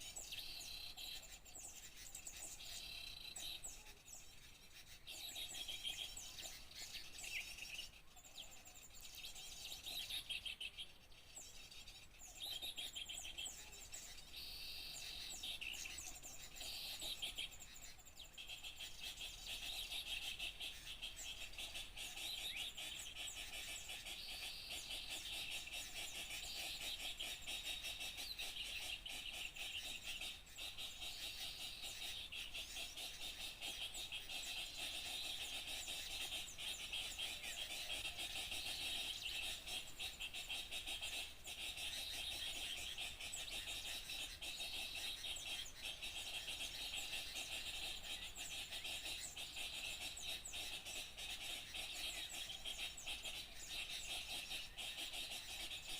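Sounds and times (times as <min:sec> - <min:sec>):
small songbirds chirping: 0:00.0 - 0:55.9.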